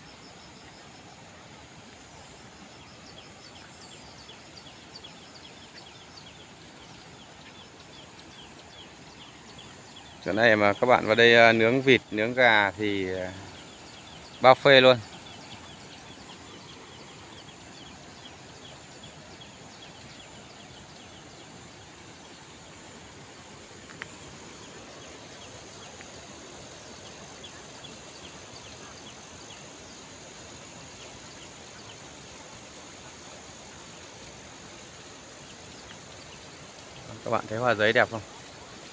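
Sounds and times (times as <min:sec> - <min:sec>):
insects droning: 0:00.0 - 0:38.9
stream flowing: 0:00.0 - 0:38.9.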